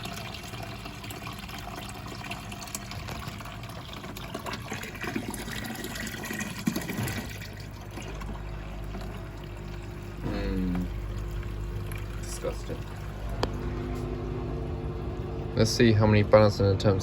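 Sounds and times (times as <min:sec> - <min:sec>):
washing machine draining water: 0:00.0 - 0:17.0.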